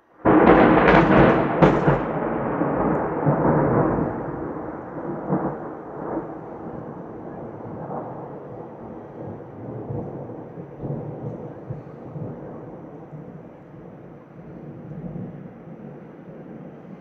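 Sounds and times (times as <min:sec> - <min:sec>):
rolling thunder rumble: 0:00.2 - 0:17.0
thunder crackling: 0:00.2 - 0:17.0.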